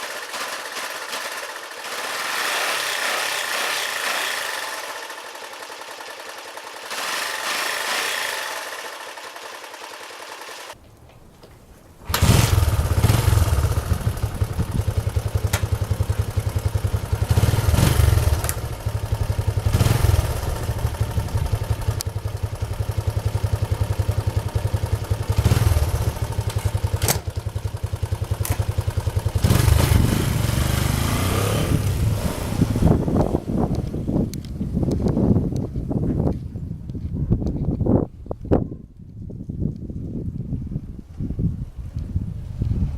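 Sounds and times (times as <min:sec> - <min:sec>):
motorcycle engine running: 0:00.0 - 0:10.8, 0:12.1 - 0:36.5.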